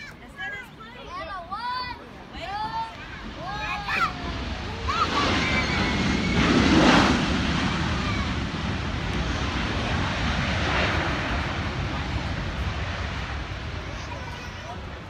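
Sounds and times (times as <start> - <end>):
jet engines rushing: 2.3 - 15.0.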